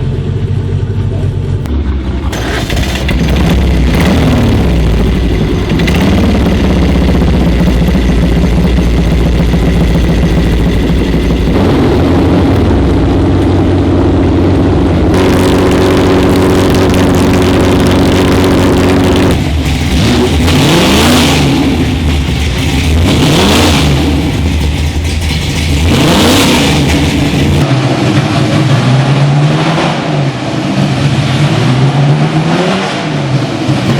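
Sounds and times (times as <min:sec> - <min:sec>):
racing car engine revving: 0:01.6 - 0:33.9.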